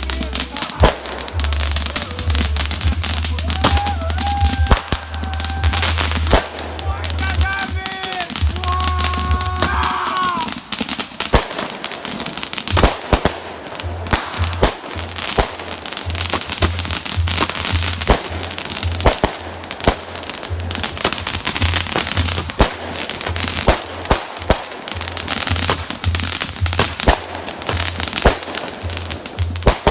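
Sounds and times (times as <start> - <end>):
fireworks bangs: 0.0 - 29.9
fireworks crackle: 0.0 - 29.9.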